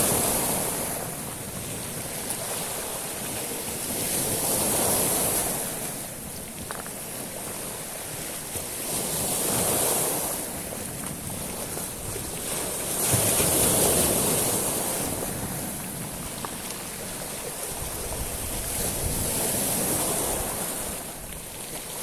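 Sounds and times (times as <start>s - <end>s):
sea waves washing over pebbles: 0.0s - 22.0s.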